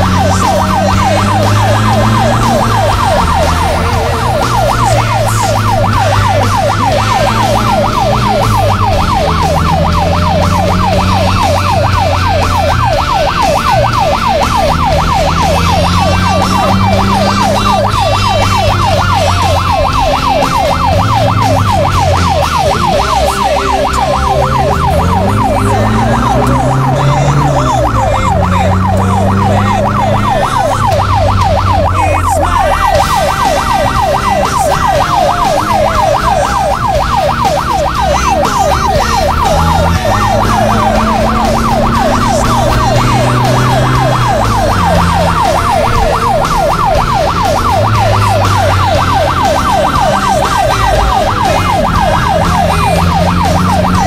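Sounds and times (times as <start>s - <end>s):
electronic music with synth warble: 0.0s - 54.0s.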